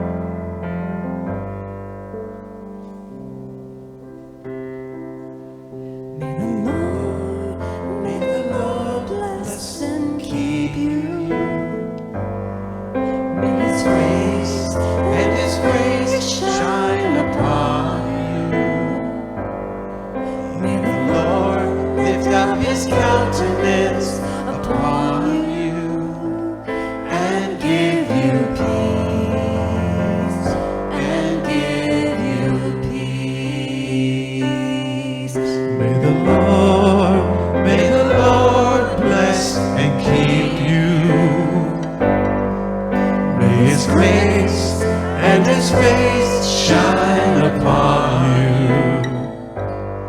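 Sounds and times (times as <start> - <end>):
piano or keyboard: 0.0 - 50.0
person singing: 6.2 - 12.1, 13.1 - 19.5, 20.2 - 42.4, 43.0 - 49.8.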